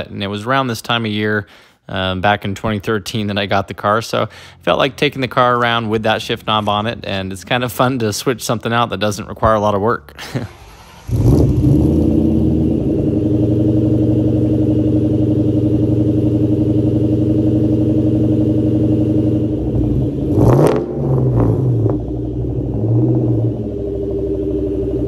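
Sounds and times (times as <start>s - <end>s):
car engine starting and idling: 2.1s - 25.0s.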